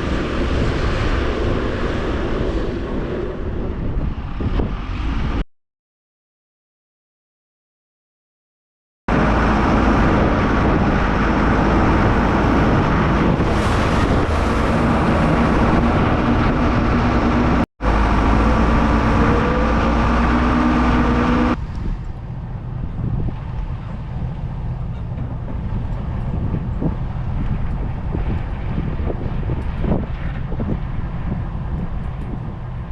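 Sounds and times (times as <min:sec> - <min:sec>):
road noise: 0:00.0 - 0:05.4, 0:09.1 - 0:32.9
rushing wind: 0:00.0 - 0:05.5, 0:09.1 - 0:32.9.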